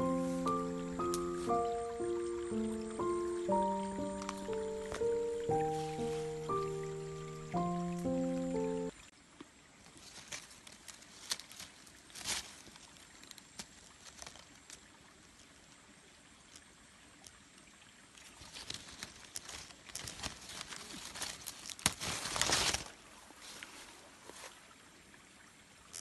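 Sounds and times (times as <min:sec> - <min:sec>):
leaves and branches rustling: 0:00.0 - 0:16.7, 0:18.1 - 0:24.8.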